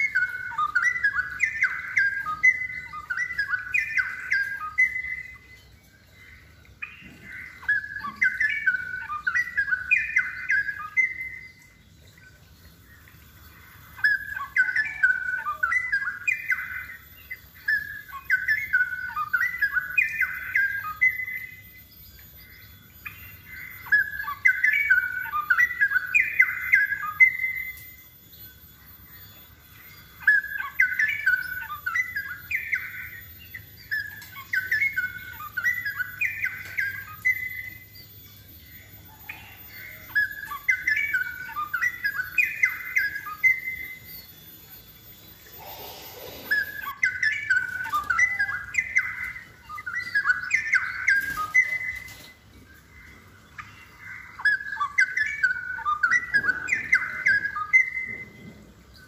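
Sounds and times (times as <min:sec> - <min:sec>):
bird singing warbled phrases: 0:00.0 - 0:59.0.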